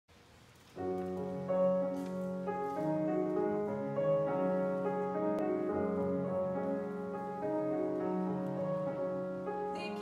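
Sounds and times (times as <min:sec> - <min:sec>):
grand piano playing slow chords: 0:00.7 - 0:10.0.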